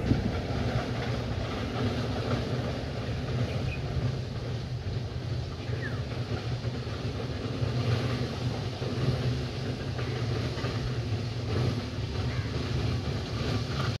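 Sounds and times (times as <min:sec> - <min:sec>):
distant train rumble: 0:00.0 - 0:14.0
wind buffeting microphone: 0:00.0 - 0:14.0.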